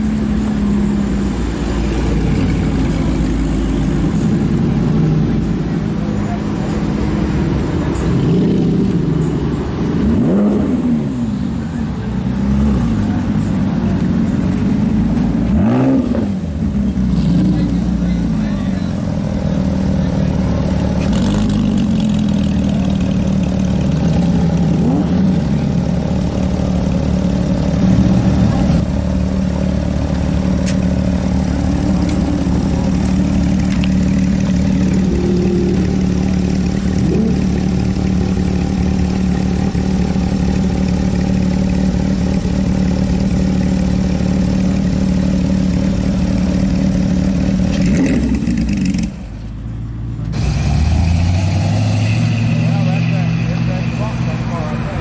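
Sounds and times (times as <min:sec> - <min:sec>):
car engine idling: 0:00.0 - 0:10.3, 0:11.0 - 0:50.7
nearby engines revving: 0:00.0 - 0:49.6, 0:50.2 - 0:55.0.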